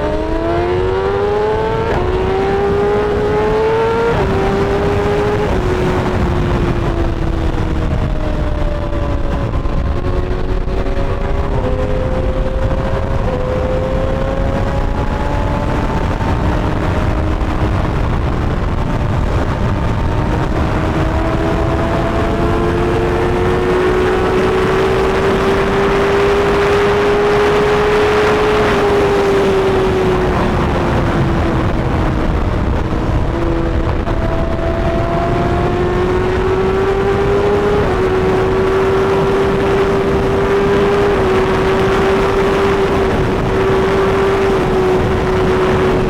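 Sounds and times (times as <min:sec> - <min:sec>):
wind rushing on microphone: 0:00.0 - 0:46.0.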